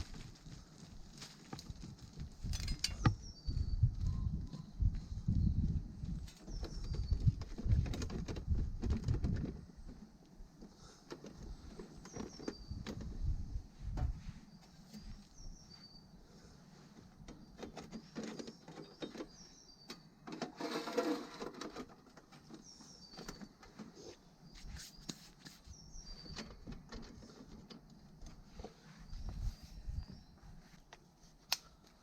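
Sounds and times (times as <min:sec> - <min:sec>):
small birds chirping: 0:02.1 - 0:08.6, 0:09.4 - 0:20.3, 0:22.0 - 0:31.0.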